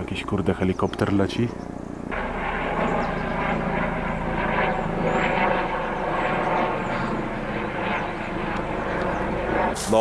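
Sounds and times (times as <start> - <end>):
helicopter rotor and engine drone: 0.0 - 10.0.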